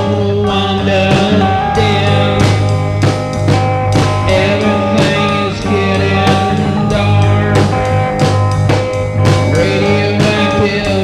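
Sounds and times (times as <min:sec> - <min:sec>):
guitar chords: 0:00.0 - 0:11.0
drum kit beat: 0:00.5 - 0:11.0.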